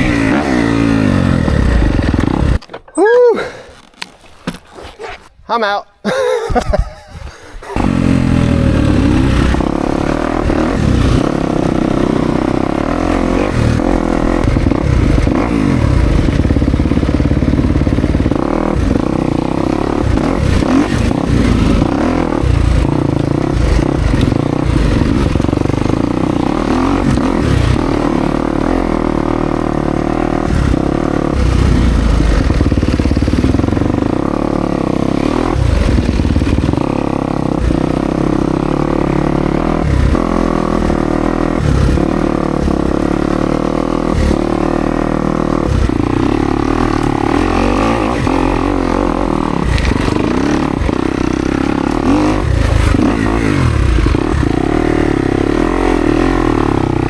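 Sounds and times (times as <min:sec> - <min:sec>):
dirt bike engine revving: 0:00.0 - 0:02.6, 0:07.6 - 0:57.0.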